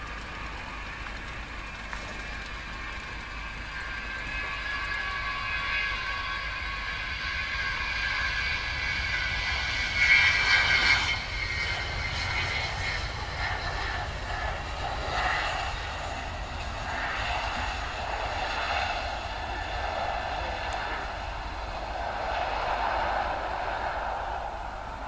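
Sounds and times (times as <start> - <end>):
jet flying past roaring: 0.0 - 25.0.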